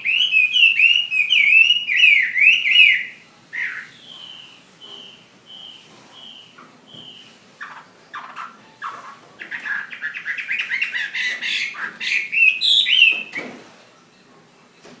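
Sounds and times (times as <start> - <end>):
songbird singing: 0.0 - 14.3.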